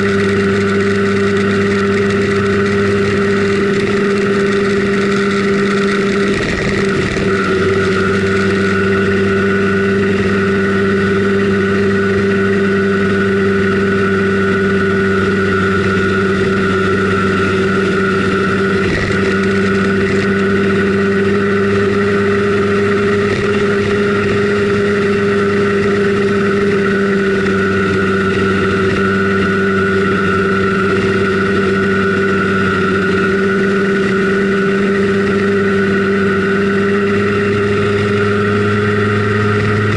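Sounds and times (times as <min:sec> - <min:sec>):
scooter two-stroke engine running: 0:00.0 - 0:39.9.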